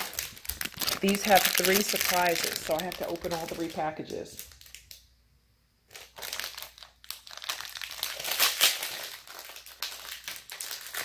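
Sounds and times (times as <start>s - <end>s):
plastic wrapper crinkling: 0.0s - 5.1s, 5.9s - 11.0s.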